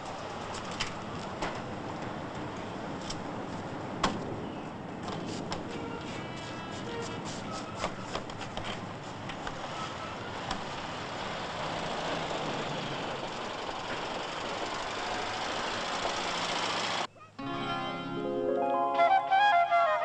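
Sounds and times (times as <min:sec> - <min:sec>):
traffic rushing past: 0:00.0 - 0:17.1.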